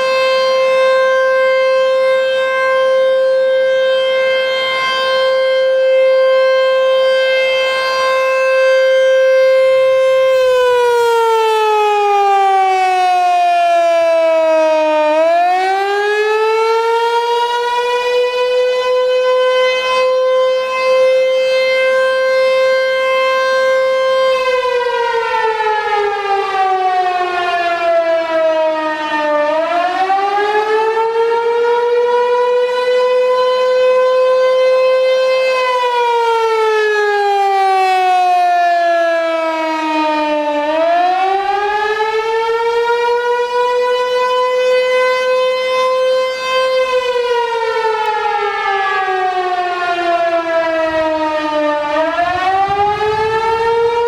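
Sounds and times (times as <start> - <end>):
wailing warning siren: 0.0 - 54.0.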